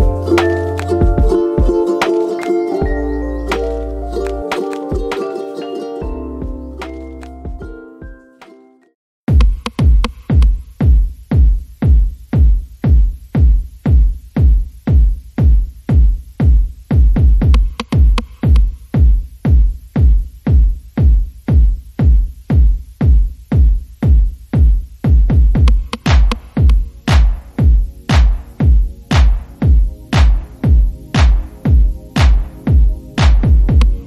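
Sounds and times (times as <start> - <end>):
drum machine kick: 0.0 - 5.3, 6.0 - 8.2, 9.3 - 34.0
electronic dance music: 0.0 - 8.2, 9.3 - 34.0.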